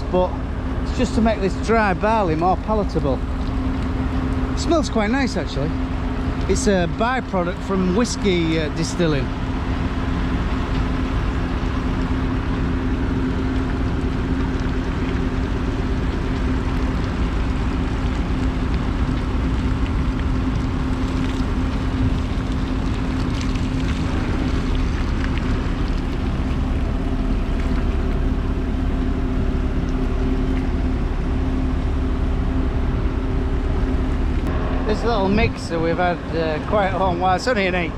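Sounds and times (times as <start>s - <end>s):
milling machinery humming: 0.0s - 37.9s.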